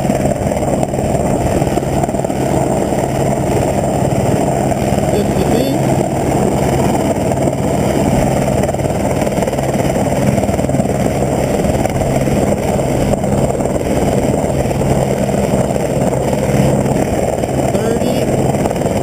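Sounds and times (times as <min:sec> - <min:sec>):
helicopter drone: 0:00.0 - 0:19.0.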